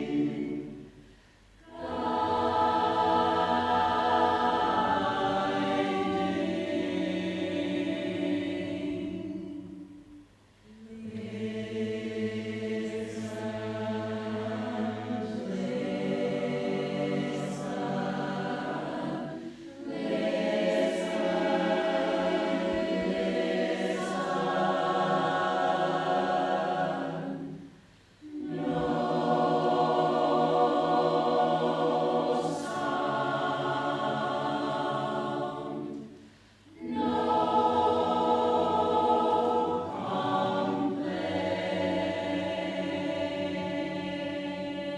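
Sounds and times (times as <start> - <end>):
choir singing in harmony: 0.0 - 44.9.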